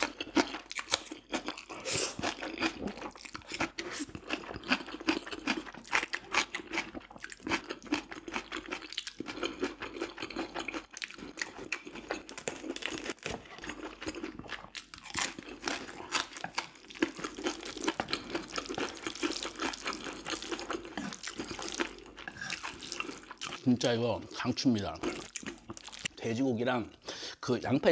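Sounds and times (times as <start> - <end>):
crunchy bites of food: 0.0 - 23.7
wet chewing and mouth smacks: 0.0 - 23.7, 25.0 - 26.2.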